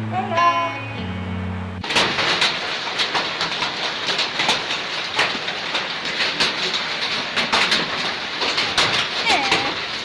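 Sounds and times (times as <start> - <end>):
hailstones striking hard surfaces: 1.8 - 10.0.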